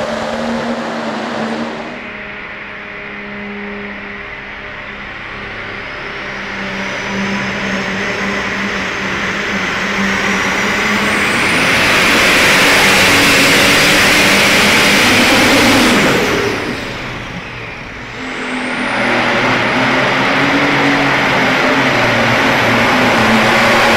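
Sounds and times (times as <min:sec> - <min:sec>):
vehicle engine at full power: 0:00.0 - 0:23.9.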